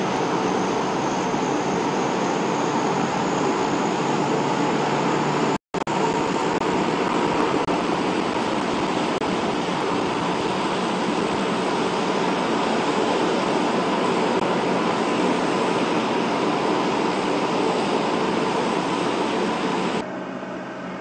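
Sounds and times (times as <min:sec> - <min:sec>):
aircraft engines running: 0:00.0 - 0:21.0.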